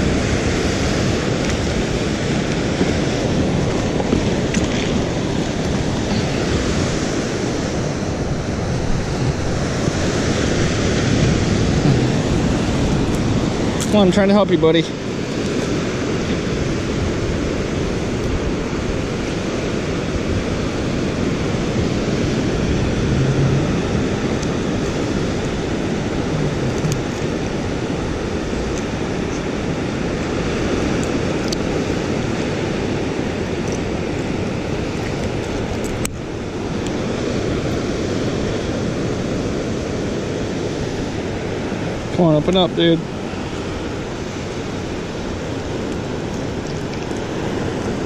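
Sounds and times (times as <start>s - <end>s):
wind noise on microphone: 0.0s - 14.4s, 15.0s - 42.2s
ocean surf washing onto beach: 0.0s - 48.0s.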